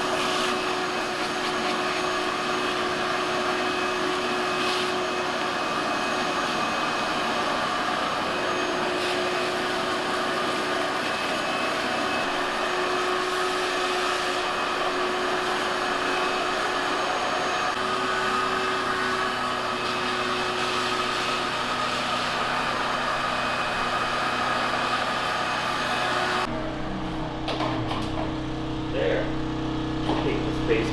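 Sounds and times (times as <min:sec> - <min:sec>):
vacuum cleaner whirring: 0:00.0 - 0:30.9.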